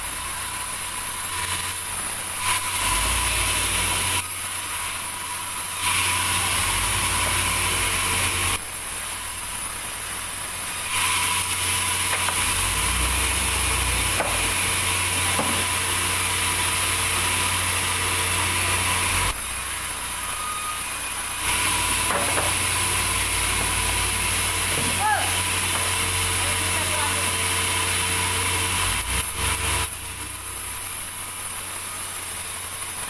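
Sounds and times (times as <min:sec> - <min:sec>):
sawmill saw cutting log: 0:00.0 - 0:08.7, 0:09.6 - 0:33.0.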